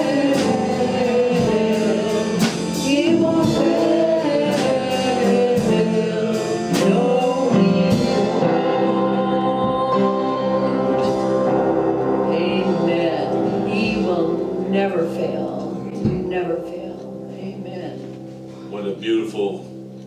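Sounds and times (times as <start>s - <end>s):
people singing: 0.0s - 17.1s
worship band playing: 0.0s - 20.0s.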